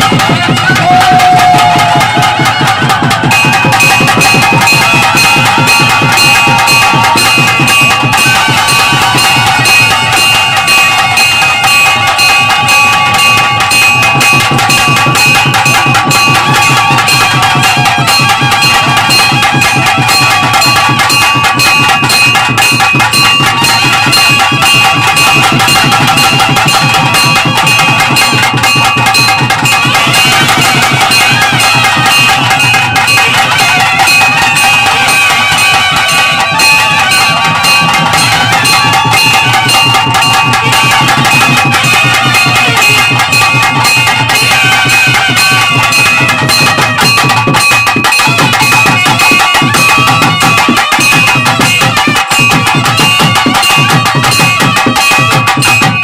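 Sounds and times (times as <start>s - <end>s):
fast dense drumming: 0.0s - 56.0s
wind instrument wavering melody: 0.0s - 56.0s.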